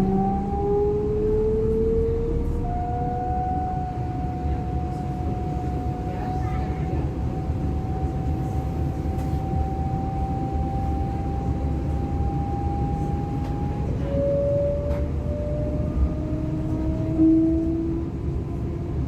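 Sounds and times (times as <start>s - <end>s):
electric traction drive whine: 0.0s - 19.0s
train rolling rumble: 0.0s - 19.0s.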